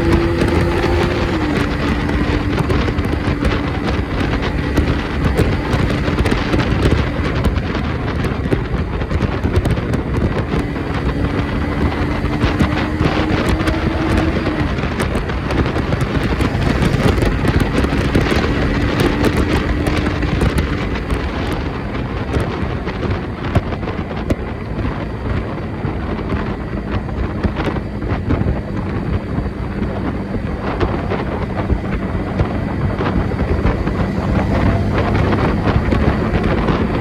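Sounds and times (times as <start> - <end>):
crackles: 0.0 - 37.0
wind on microphone: 0.0 - 37.0.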